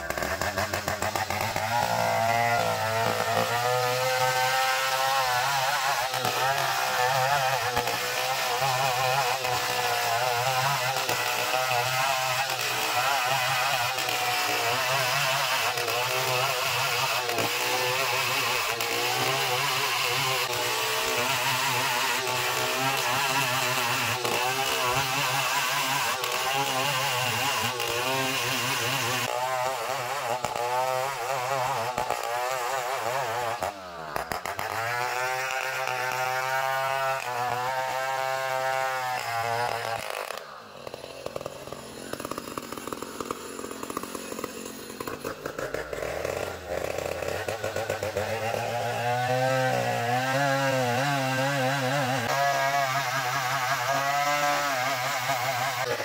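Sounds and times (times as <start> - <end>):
engine-driven saw cutting log: 0.0 - 56.0.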